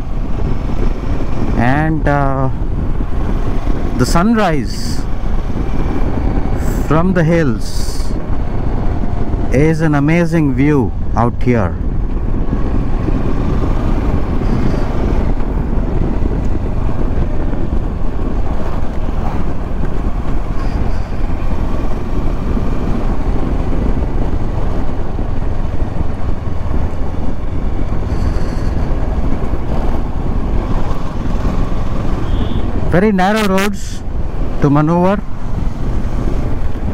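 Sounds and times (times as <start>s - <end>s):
motorcycle engine and tyre noise: 0.0s - 36.9s
wind noise on microphone: 0.0s - 36.9s.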